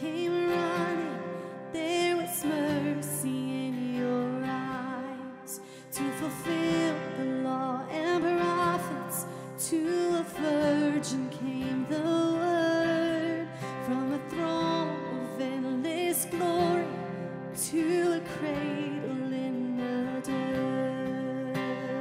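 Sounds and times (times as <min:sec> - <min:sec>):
acoustic guitar playing: 0:00.0 - 0:22.0
woman singing worship song: 0:00.0 - 0:22.0.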